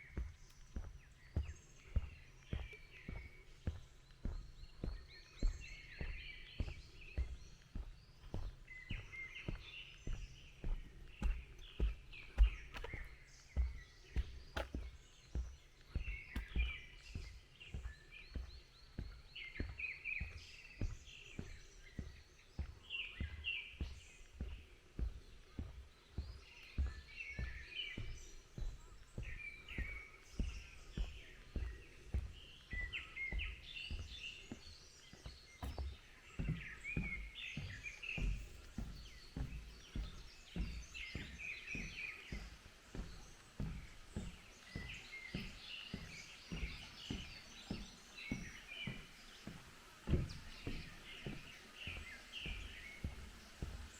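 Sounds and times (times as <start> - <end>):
footsteps on forest path: 0.0 - 53.9
songbirds chirping: 0.0 - 53.9.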